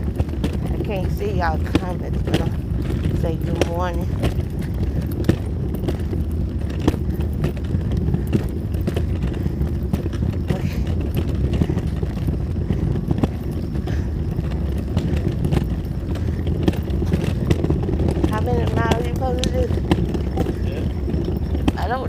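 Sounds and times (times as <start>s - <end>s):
walker rolling over pavement: 0.0s - 22.0s.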